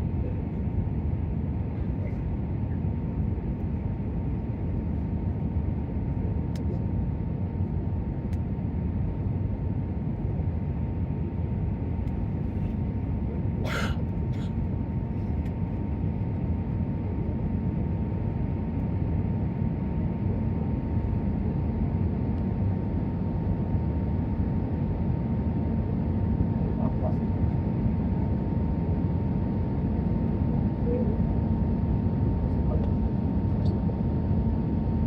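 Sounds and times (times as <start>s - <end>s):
aircraft cabin rumble: 0.0s - 35.0s
faint steady whine: 0.0s - 35.0s.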